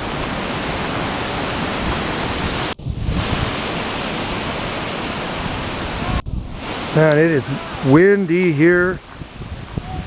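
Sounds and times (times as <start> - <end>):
wind buffeting microphone: 0.0 - 10.0
wind rushing through trees: 0.0 - 10.0.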